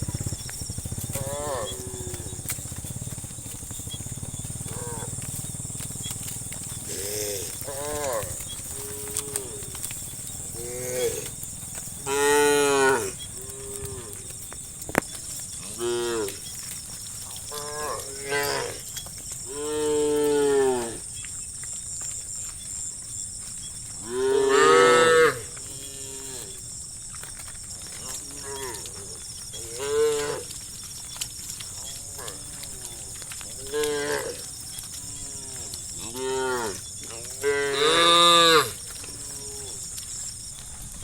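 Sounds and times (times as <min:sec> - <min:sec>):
cows mooing: 0:00.0 - 0:21.2, 0:24.0 - 0:26.6, 0:27.8 - 0:40.3.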